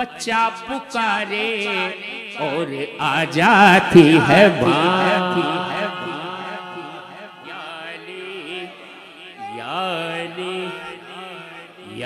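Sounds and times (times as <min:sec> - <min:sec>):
man chanting melodic phrases: 0:00.0 - 0:12.0.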